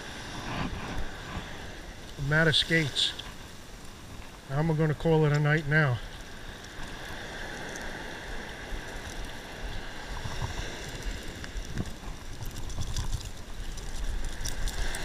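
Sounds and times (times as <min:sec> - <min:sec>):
low wind rumble: 0:00.0 - 0:15.0
ocean surf on beach: 0:00.0 - 0:15.0.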